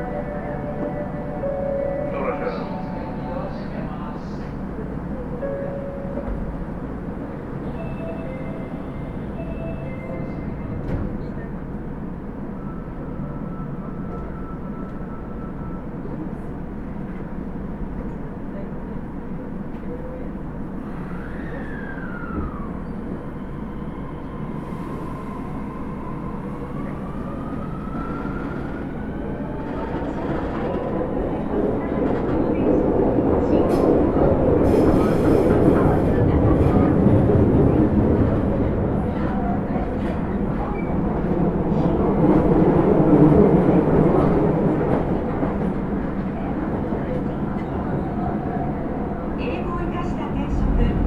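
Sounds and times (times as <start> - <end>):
wheels rumbling on rail: 0.0 - 51.0.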